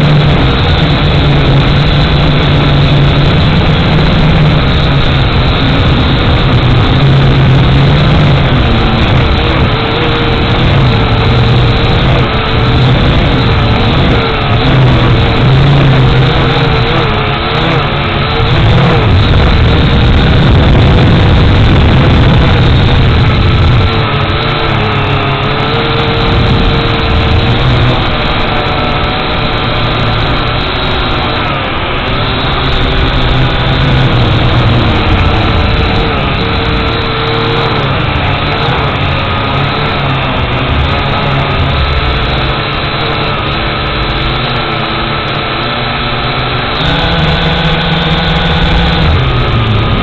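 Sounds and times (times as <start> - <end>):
quadcopter propellers buzzing: 0.0 - 50.0.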